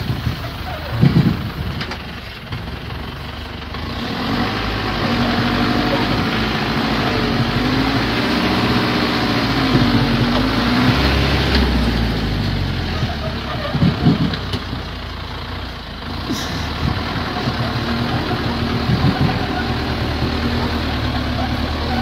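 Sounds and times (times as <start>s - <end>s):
truck engine running under load: 0.0s - 22.0s.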